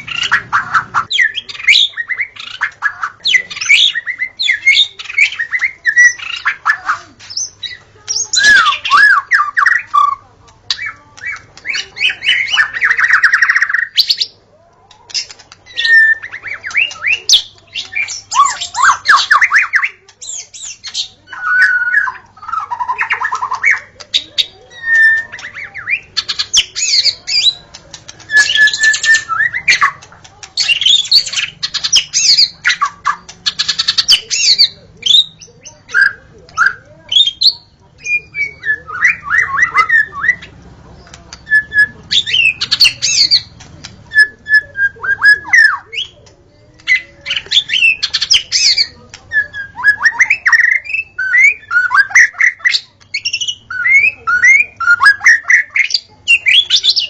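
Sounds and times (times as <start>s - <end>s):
songbird singing whistles and chatter: 0.0s - 57.0s.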